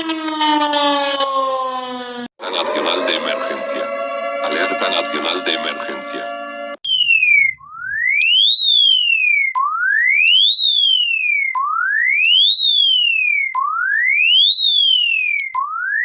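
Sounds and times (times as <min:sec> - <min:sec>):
emergency alert siren tone: 0:00.0 - 0:02.3, 0:03.0 - 0:16.0.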